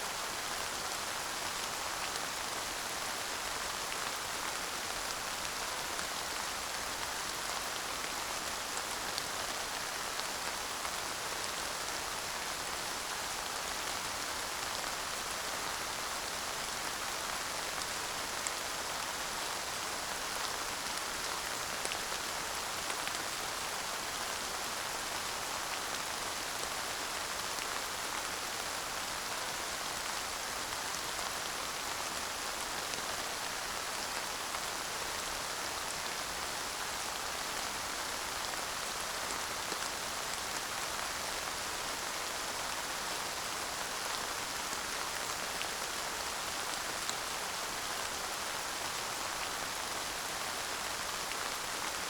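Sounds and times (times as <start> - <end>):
light rain falling: 0.0 - 52.0.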